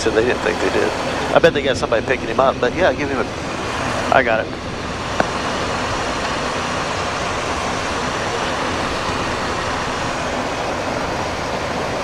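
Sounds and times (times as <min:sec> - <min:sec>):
cockpit air rush and jet engine: 0:00.0 - 0:12.0.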